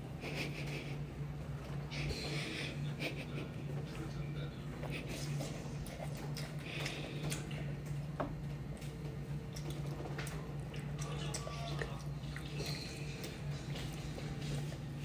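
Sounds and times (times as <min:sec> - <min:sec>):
steady low hum: 0:00.0 - 0:15.0
child chewing with mouth smacks: 0:00.2 - 0:15.0.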